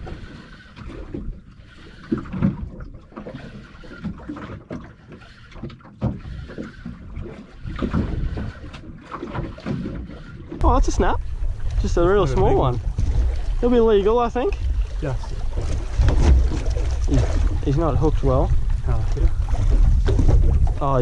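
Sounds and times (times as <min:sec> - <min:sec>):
water slapping against boat hull: 0:00.0 - 0:21.0.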